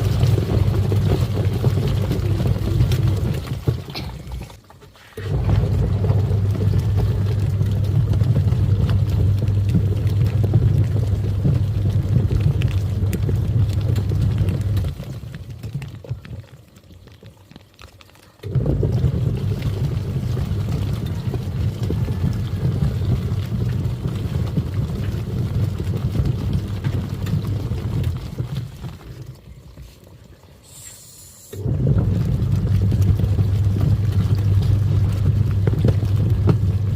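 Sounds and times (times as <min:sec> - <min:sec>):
washing machine motor humming: 0:00.0 - 0:16.4, 0:18.4 - 0:36.9
water churning: 0:00.0 - 0:36.9.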